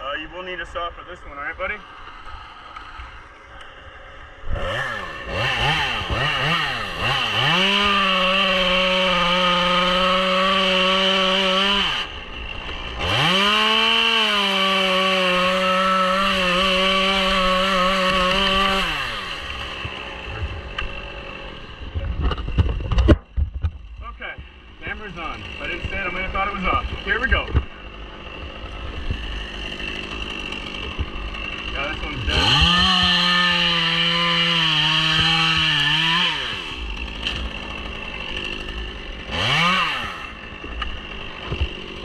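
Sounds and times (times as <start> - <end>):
chainsaw revving: 3.8 - 23.0, 23.8 - 42.0.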